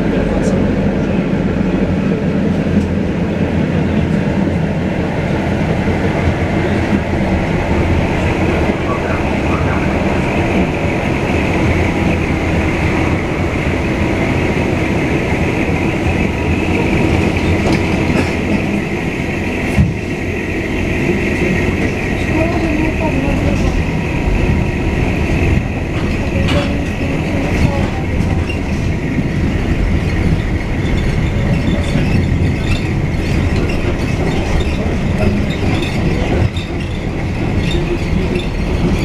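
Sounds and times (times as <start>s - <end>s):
tram wheels rumbling: 0.0s - 39.0s.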